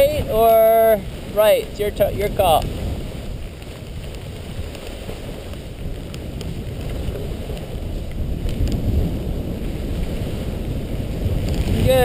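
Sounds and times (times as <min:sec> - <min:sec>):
wind rushing over microphone: 0:00.0 - 0:12.0
board sliding through snow: 0:02.3 - 0:12.0.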